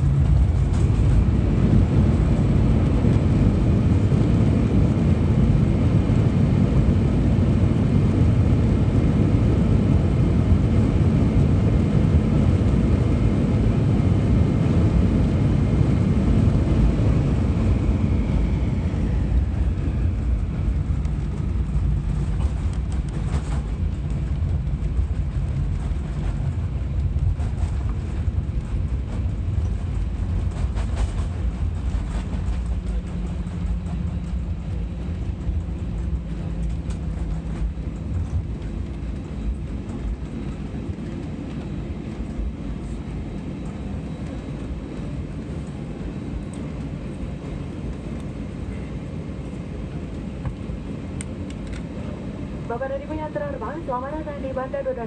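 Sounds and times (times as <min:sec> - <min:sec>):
aircraft cabin engine rumble: 0:00.0 - 0:55.0
jet engine whine: 0:00.0 - 0:55.0.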